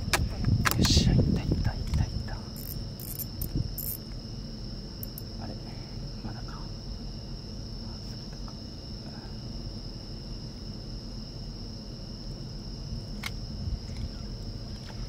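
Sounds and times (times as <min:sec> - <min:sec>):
insects trilling: 0:00.0 - 0:15.0
low background hum: 0:00.0 - 0:15.0.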